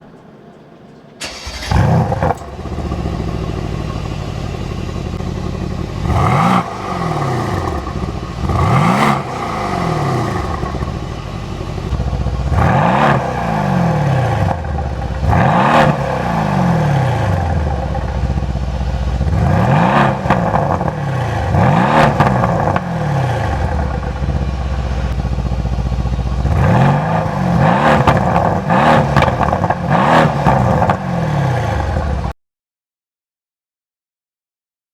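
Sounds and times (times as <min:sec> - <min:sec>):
car engine starting and revving: 0:01.2 - 0:32.3.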